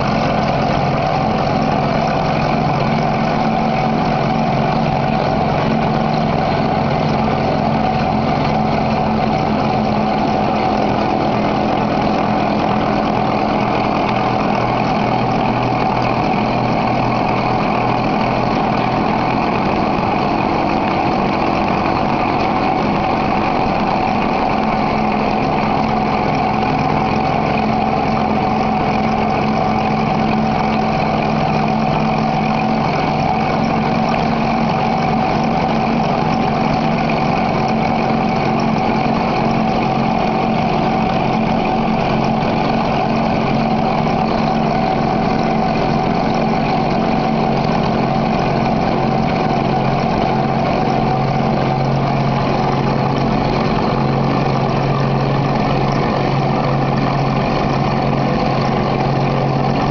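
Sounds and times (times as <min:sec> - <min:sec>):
glass grinding machine running: 0:00.0 - 0:59.9.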